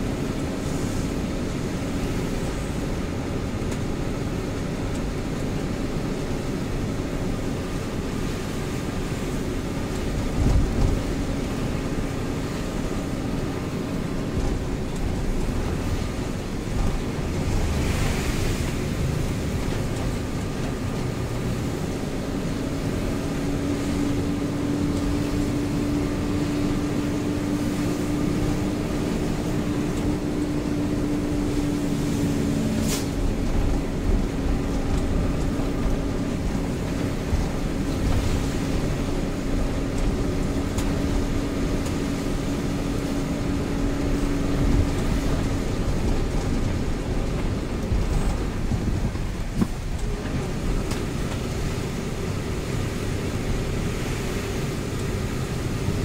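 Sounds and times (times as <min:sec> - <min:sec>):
truck engine drone and road rumble: 0:00.0 - 0:56.0.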